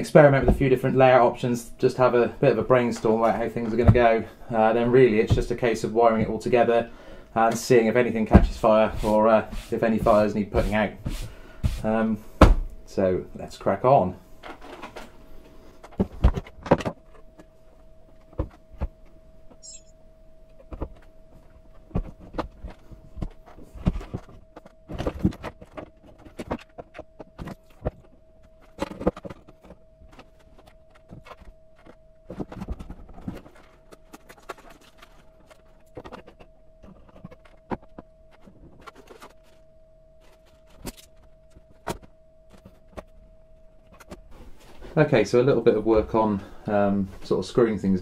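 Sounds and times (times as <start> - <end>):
faint high hum: 0.0 - 48.0.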